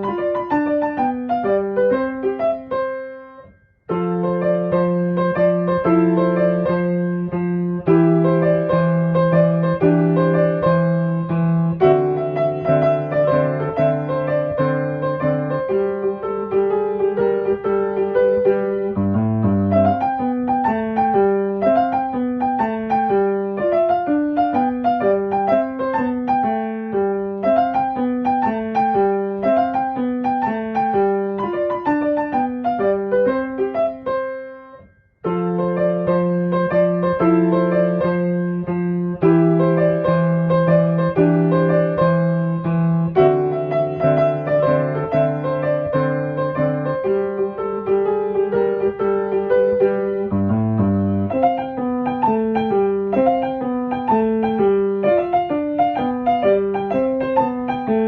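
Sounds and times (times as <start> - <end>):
gentle piano music: 0.0 - 58.0.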